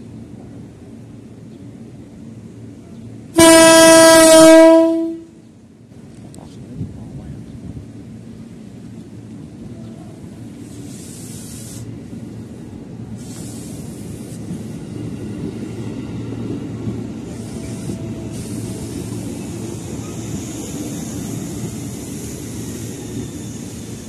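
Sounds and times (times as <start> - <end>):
train wheels rumbling: 0.0 - 24.0.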